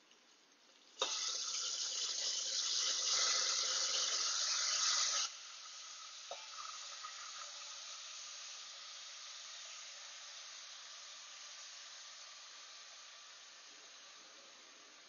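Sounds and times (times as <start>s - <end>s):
vegetables sizzling in hot fat: 0.0s - 15.0s.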